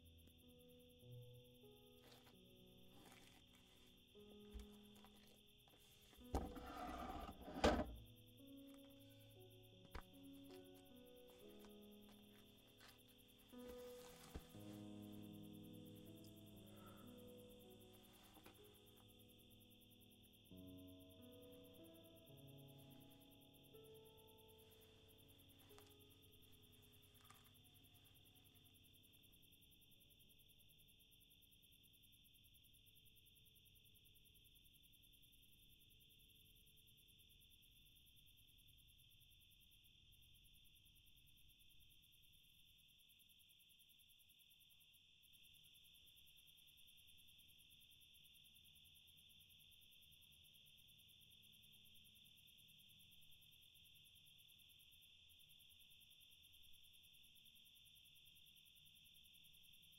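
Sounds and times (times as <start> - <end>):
crickets chirring: 0.0 - 59.9.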